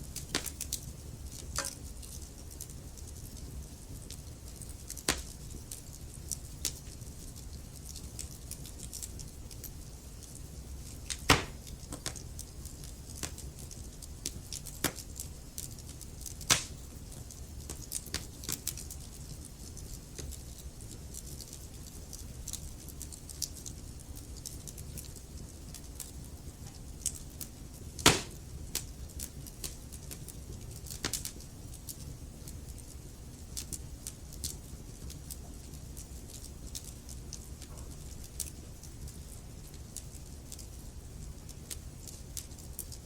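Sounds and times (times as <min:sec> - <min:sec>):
logs crackling and popping: 0:00.1 - 0:43.0.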